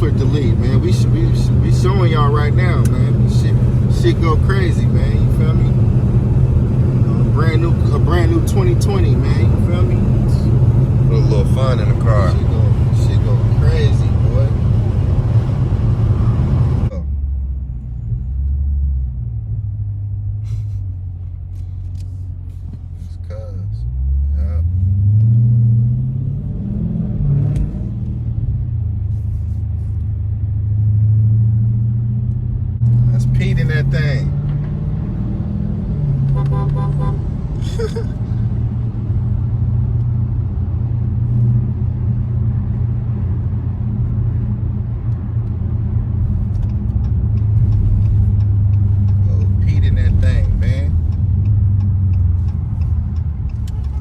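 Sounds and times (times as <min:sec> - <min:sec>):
car engine exhaust rumble: 0:00.0 - 0:54.0.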